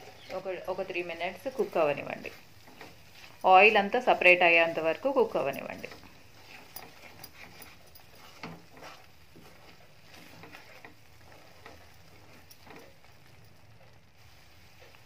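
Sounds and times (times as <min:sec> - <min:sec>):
paste sizzling in oil: 0:00.0 - 0:15.0
wooden spatula scraping a pan: 0:00.0 - 0:15.0.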